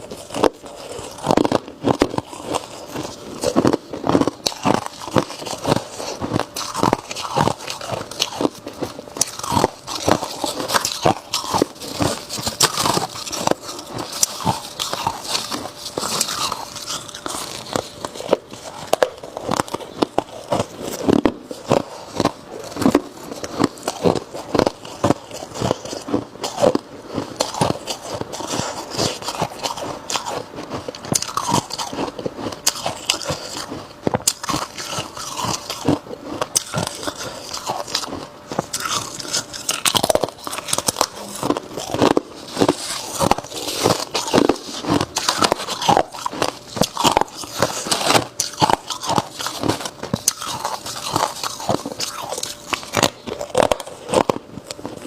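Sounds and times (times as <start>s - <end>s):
person crunching ice: 0.0s - 55.0s.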